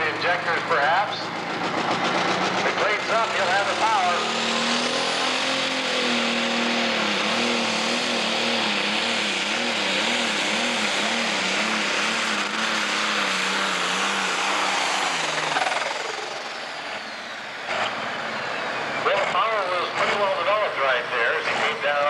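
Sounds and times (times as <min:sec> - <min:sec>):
tractor diesel engine at full load: 0:00.0 - 0:22.0.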